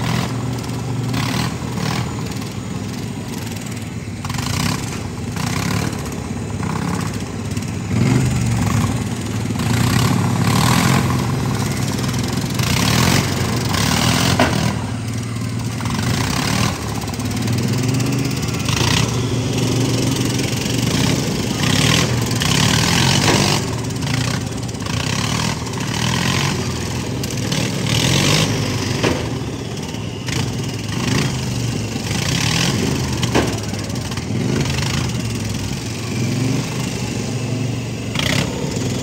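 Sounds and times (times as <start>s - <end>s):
lawn mower engines revving: 0.0s - 39.0s.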